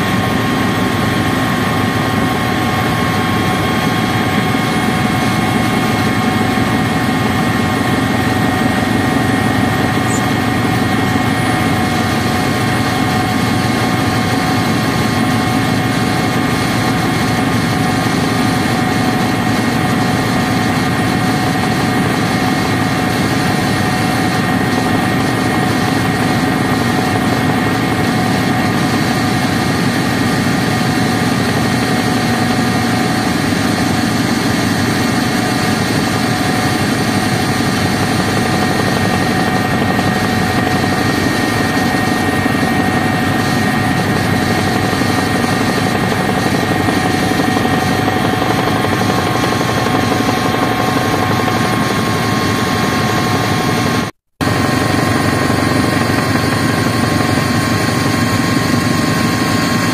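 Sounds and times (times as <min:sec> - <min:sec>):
helicopter engine and rotor noise: 0:00.0 - 0:59.9.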